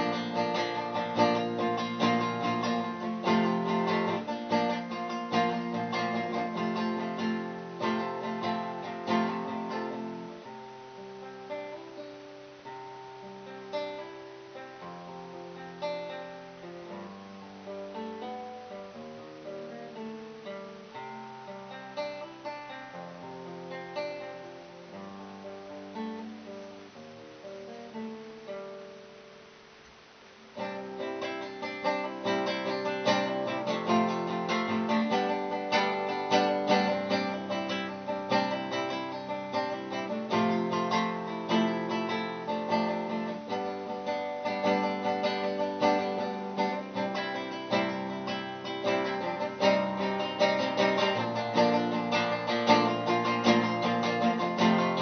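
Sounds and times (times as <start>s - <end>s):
classical guitar fingerstyle: 0.0s - 55.0s.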